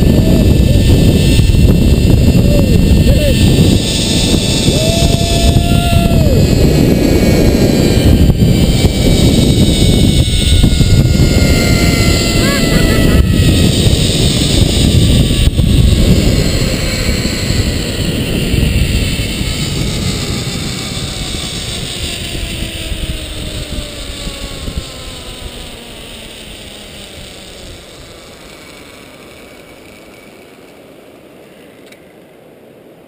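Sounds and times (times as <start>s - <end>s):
wind on microphone: 0.0s - 30.1s
zipline pulleys whining on cable: 0.0s - 33.0s.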